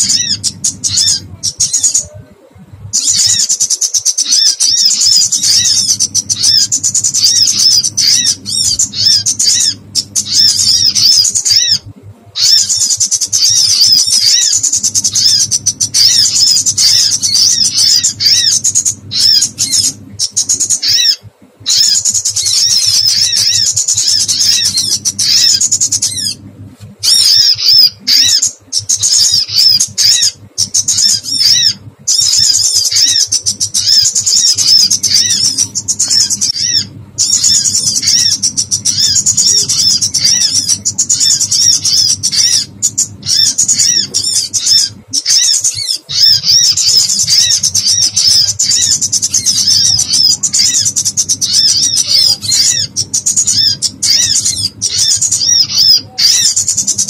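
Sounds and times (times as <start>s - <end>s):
small birds distress calls: 0.0s - 57.0s.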